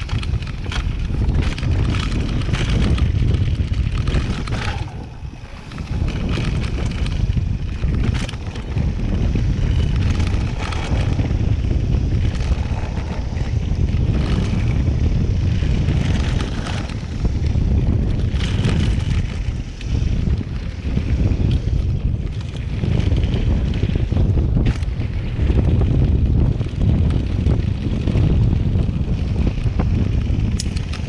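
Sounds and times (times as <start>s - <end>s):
bike knocks and rattles: 0.0s - 31.0s
wind rumble on microphone: 0.0s - 31.0s.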